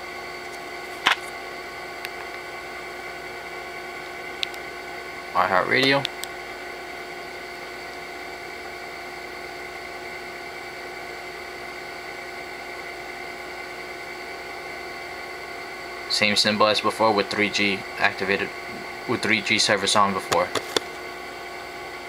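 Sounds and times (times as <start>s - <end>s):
background hum and hiss: 0.0s - 22.0s.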